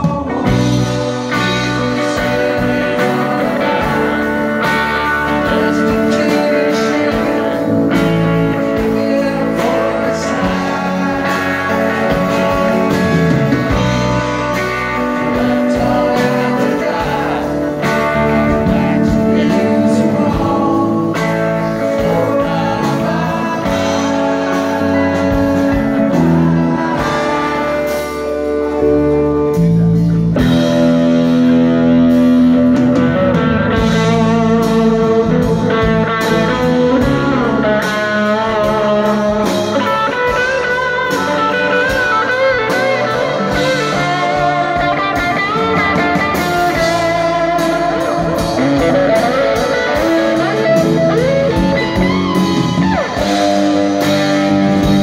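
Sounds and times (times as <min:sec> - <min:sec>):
bass guitar: 0:00.0 - 0:55.0
drums: 0:00.0 - 0:55.0
electric guitar: 0:00.0 - 0:55.0
electric keyboard: 0:00.0 - 0:55.0
man singing lead: 0:00.0 - 0:55.0.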